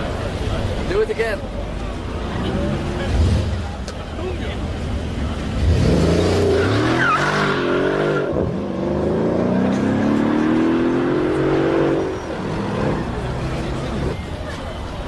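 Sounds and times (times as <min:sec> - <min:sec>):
car engine accelerating hard: 0:01.8 - 0:14.2.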